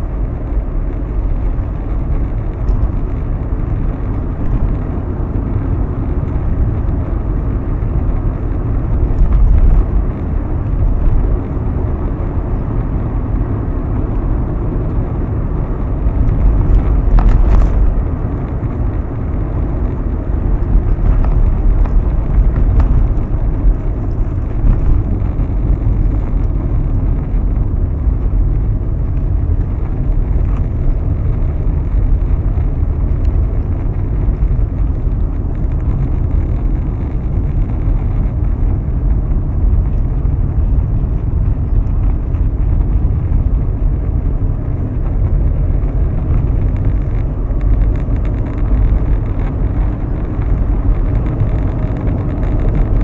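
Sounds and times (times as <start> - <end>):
car cabin road rumble: 0.0 - 53.0.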